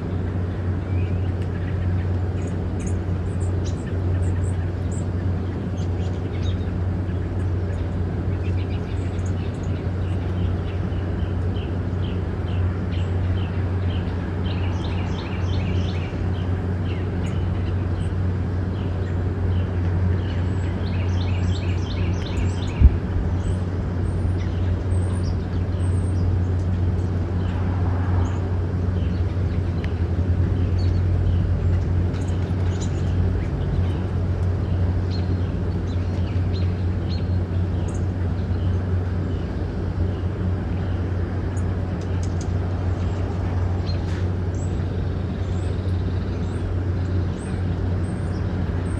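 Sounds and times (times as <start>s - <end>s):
steady low rumble: 0.0s - 48.9s.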